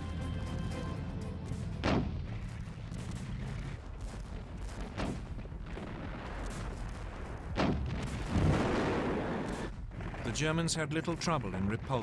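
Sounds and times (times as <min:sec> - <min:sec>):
gunfire and artillery shots: 0:01.8 - 0:12.0.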